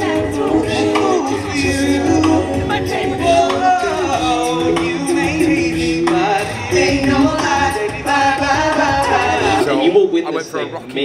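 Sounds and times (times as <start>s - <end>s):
people singing in harmony: 0.0s - 9.9s
amplified pop music: 0.0s - 11.0s.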